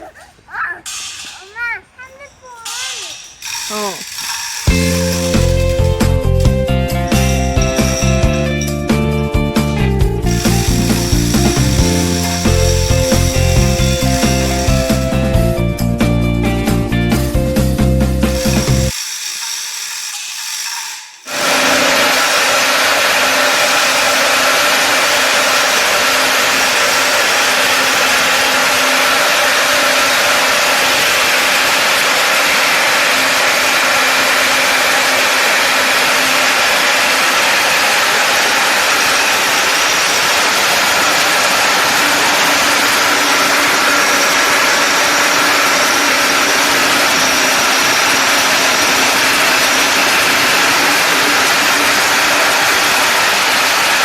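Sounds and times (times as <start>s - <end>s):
machine humming and whining: 2.6s - 8.8s, 9.8s - 15.6s, 18.3s - 54.0s.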